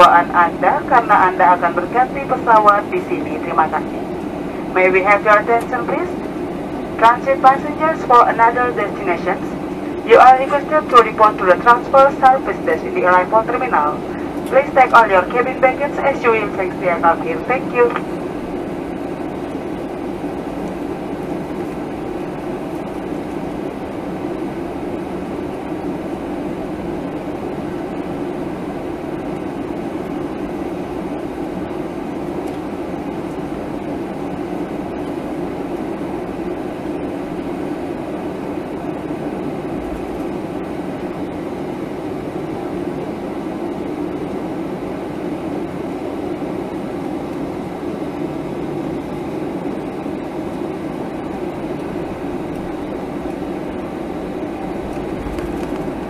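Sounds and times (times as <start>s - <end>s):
airframe rumble rolling on taxiway: 0.0s - 56.0s
jet engines at low power: 0.0s - 56.0s.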